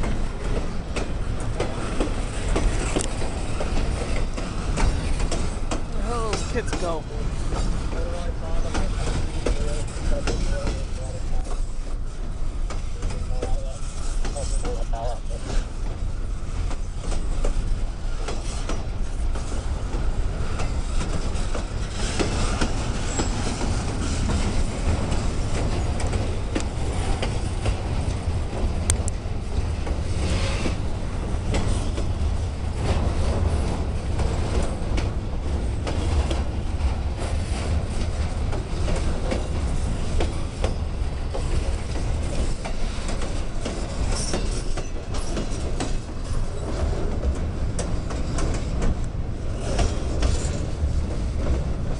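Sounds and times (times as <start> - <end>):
train wheels clacking on rail joints: 0.0 - 51.9.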